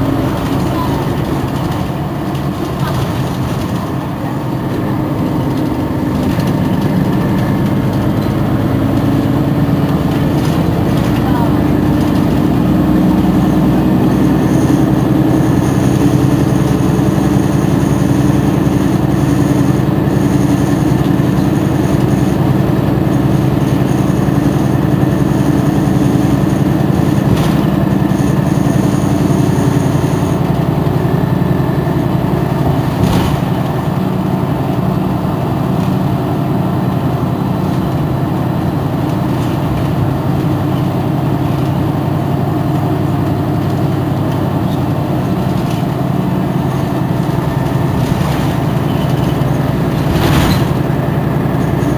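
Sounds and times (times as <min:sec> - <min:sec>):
bus engine humming: 0:00.0 - 0:51.9.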